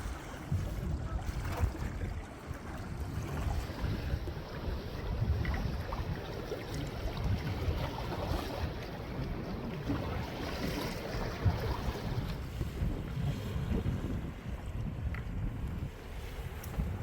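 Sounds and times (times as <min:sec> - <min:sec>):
wind and sea noise: 0:00.0 - 0:17.0
wind rumbling on microphone: 0:00.0 - 0:17.0.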